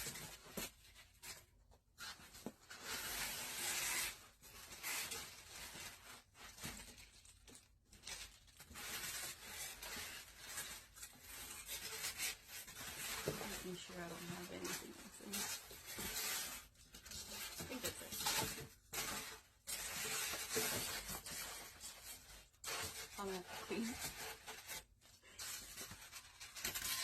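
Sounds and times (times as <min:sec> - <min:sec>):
packaging rustling and tearing: 0:00.0 - 0:27.0.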